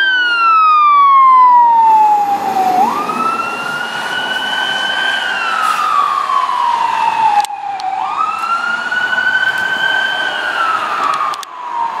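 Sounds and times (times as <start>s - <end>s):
fire truck siren wailing: 0.0s - 12.0s.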